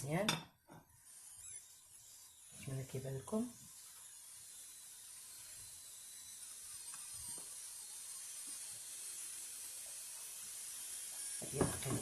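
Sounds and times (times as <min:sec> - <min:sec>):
oil sizzling in a frying pan: 0:01.0 - 0:12.0.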